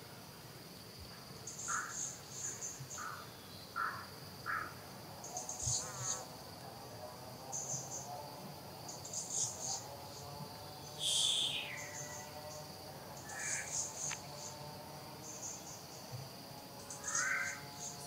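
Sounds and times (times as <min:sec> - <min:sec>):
cricket-like chirping: 0:00.0 - 0:18.0
insects droning: 0:00.0 - 0:18.0.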